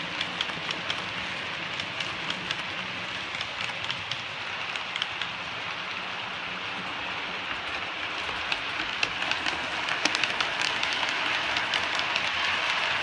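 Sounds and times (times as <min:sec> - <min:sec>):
wheels clicking over rail joints: 0:00.0 - 0:13.0.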